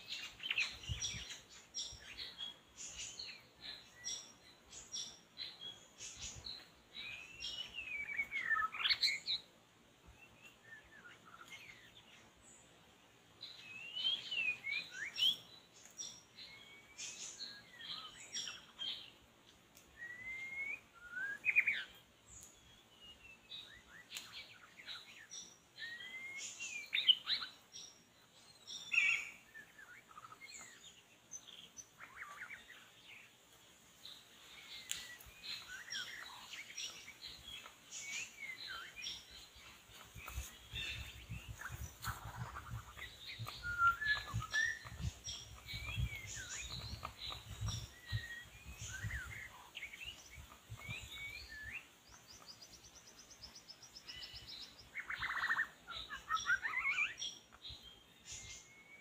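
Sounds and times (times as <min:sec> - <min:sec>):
songbird whistling song: 0:00.0 - 0:09.5, 0:10.1 - 0:12.2, 0:13.4 - 0:19.2, 0:19.8 - 0:33.3, 0:34.0 - 0:59.0
faint steady high hiss: 0:00.0 - 0:59.0.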